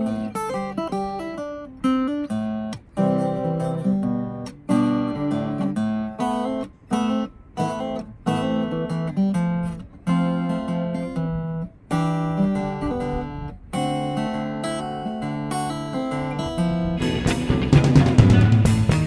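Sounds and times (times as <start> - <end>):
acoustic guitar chords and notes: 0.0 - 19.0.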